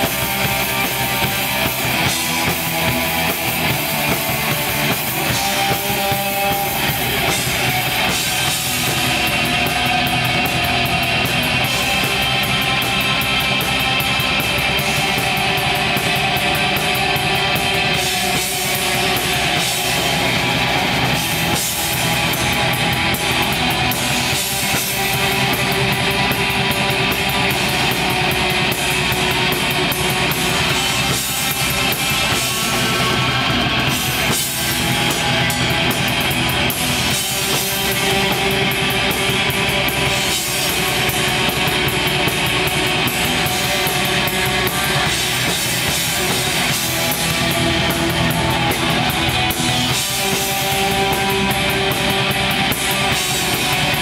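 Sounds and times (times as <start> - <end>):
distorted electric guitars: 0.0 - 54.0
fast drumming: 0.0 - 54.0.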